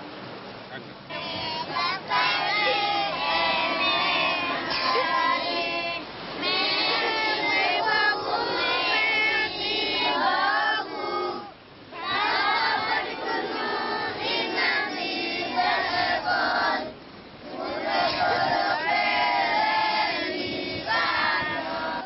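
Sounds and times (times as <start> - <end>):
children singing in unison: 1.1 - 22.0.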